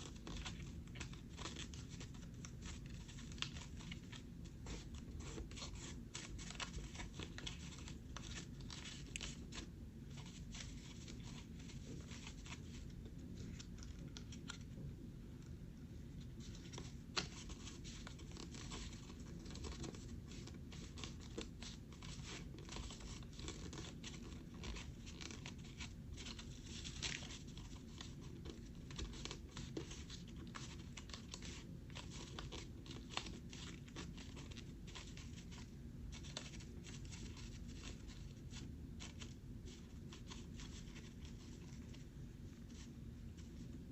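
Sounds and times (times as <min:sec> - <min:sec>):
paper folded and creased: 0:00.0 - 0:14.8, 0:16.2 - 0:42.0
steady low hum: 0:00.0 - 0:43.9.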